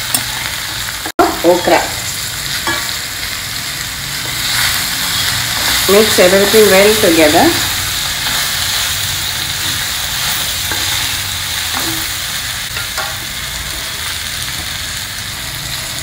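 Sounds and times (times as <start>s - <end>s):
okra sizzling in hot oil: 0.0s - 16.0s.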